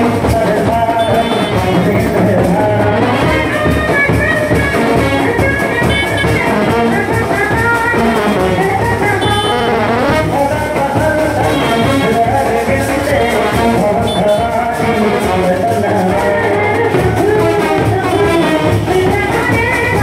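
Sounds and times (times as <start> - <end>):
brass band playing: 0.0 - 19.9
driving drum beat: 0.0 - 20.0.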